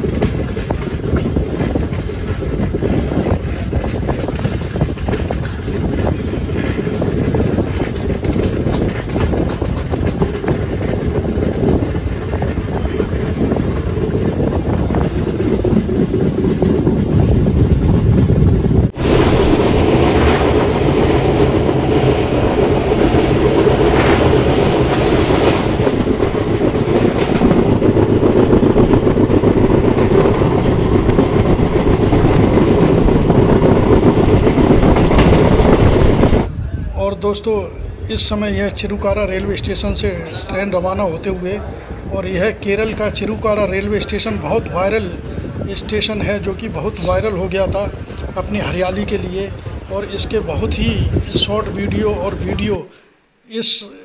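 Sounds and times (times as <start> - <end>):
clickety-clack over rail joints: 0.0 - 36.5, 38.2 - 52.8
train wheels rumbling on rails: 0.0 - 52.9.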